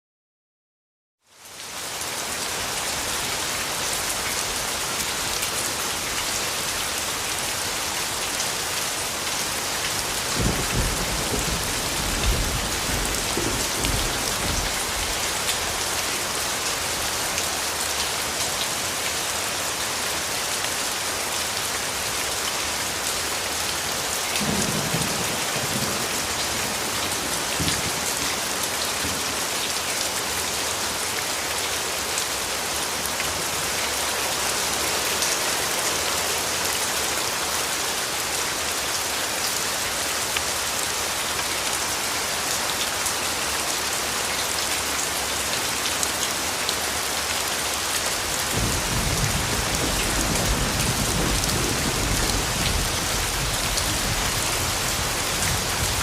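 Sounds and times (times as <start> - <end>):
heavy rain falling: 1.3 - 56.0.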